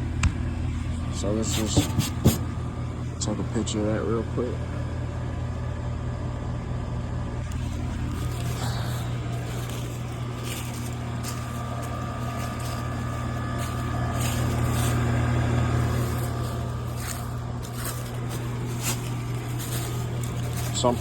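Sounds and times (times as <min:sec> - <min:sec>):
air conditioner humming: 0:00.0 - 0:21.0
faint steady whine: 0:00.0 - 0:21.0.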